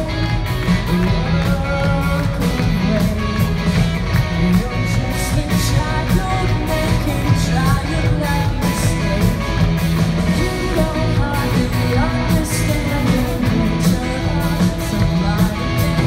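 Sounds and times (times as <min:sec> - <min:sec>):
rock band playing: 0:00.0 - 0:16.0
woman singing lead: 0:00.0 - 0:16.0.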